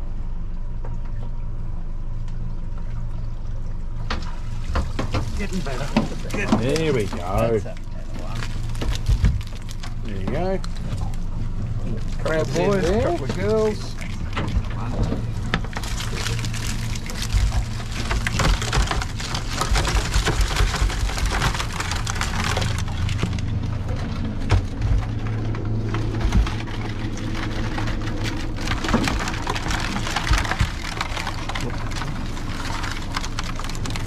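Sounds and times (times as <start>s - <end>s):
steady low hum: 0.0s - 34.0s
seawater pouring and dripping: 0.4s - 34.0s.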